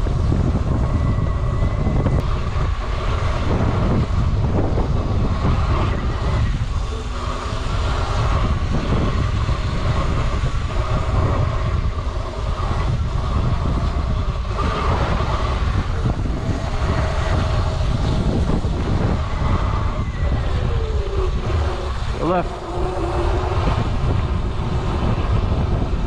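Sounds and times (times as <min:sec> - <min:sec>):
electric dirt bike rattling: 0:00.0 - 0:26.0
wind buffeting microphone: 0:00.0 - 0:26.0.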